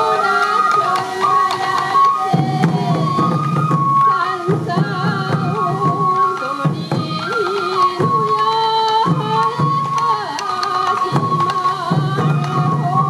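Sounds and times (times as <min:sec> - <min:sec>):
bamboo flute melody: 0:00.0 - 0:13.0
person singing: 0:00.0 - 0:13.0
taiko drums: 0:00.0 - 0:13.0.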